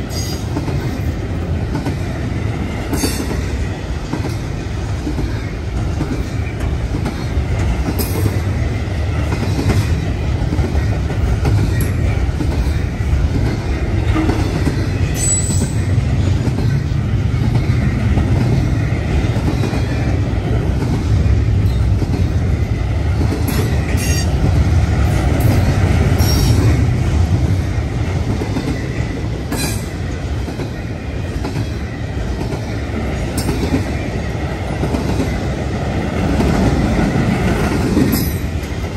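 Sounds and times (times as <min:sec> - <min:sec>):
rumble of train wheels on rail: 0:00.0 - 0:38.9.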